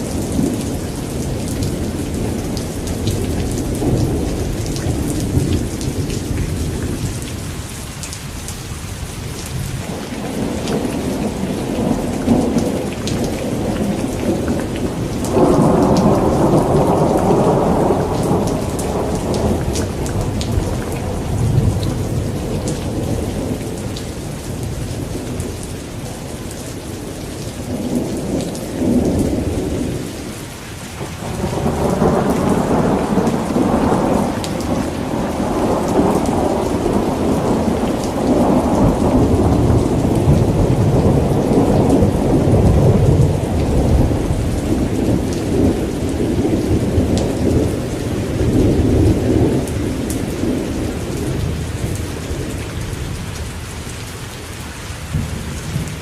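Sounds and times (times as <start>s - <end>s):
rolling thunder: 0.0s - 7.6s, 9.5s - 30.3s, 31.0s - 53.4s, 55.1s - 56.0s
steady rain: 0.0s - 56.0s.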